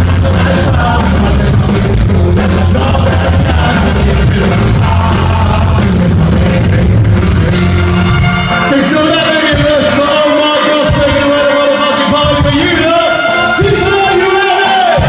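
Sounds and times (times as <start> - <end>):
heavy bass line: 0.0 - 15.0
live rock band playing: 0.0 - 15.0.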